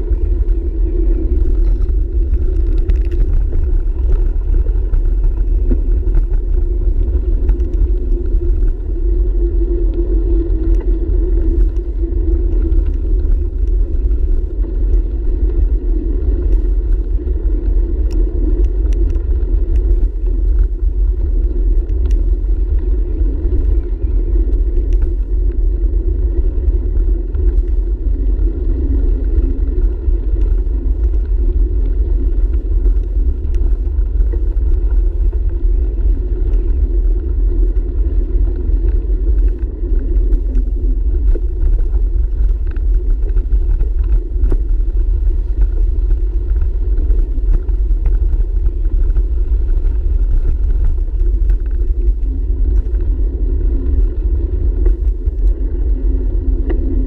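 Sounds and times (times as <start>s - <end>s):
bicycle rolling on pavement: 0.0s - 57.0s
wind buffeting microphone: 0.0s - 57.0s.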